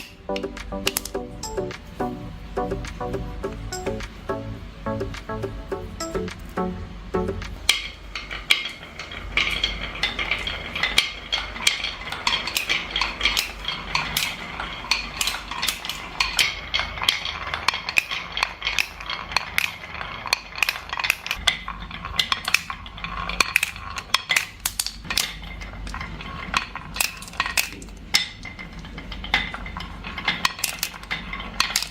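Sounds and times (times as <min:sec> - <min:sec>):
marbles rolling and clicking: 0:00.0 - 0:06.6, 0:07.2 - 0:31.9.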